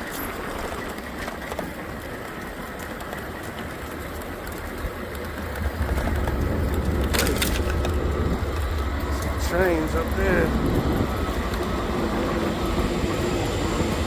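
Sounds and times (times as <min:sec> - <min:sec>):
train rumbling along tracks: 0:00.0 - 0:14.0.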